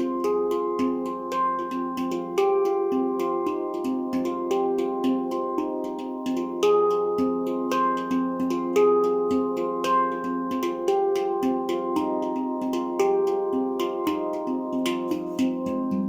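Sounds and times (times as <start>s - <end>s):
handpan struck notes ringing: 0.0s - 16.0s.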